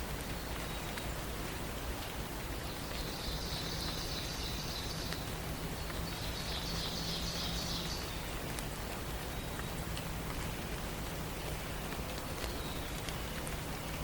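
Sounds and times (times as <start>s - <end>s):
rain-like hiss: 0.0s - 14.0s.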